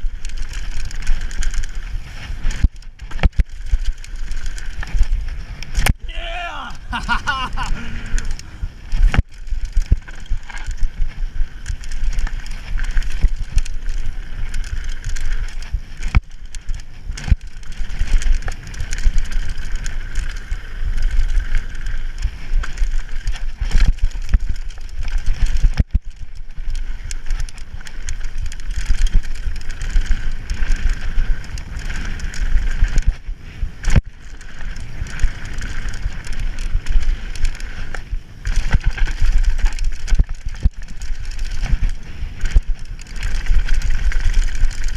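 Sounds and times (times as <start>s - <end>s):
bike tyres rumbling over dirt: 0.0s - 44.9s.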